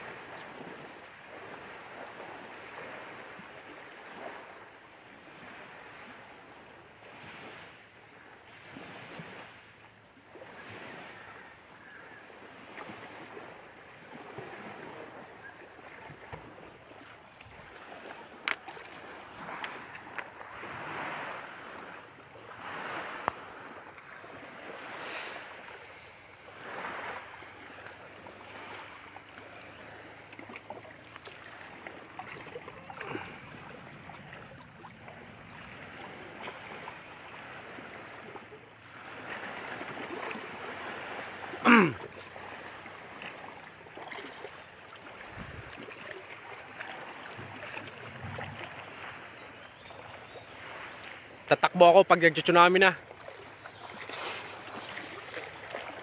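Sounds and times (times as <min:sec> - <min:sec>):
waves washing on shore: 0:00.0 - 0:56.0.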